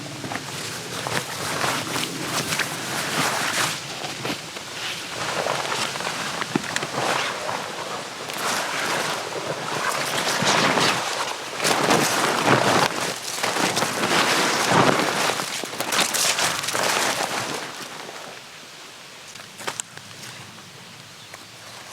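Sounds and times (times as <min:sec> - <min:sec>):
rustling and crackling noise: 0:00.0 - 0:21.9.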